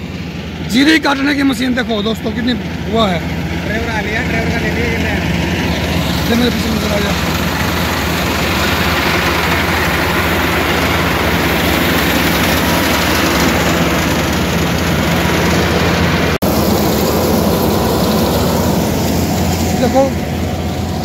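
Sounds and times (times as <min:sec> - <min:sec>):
combine harvester engine running: 0:00.0 - 0:21.0.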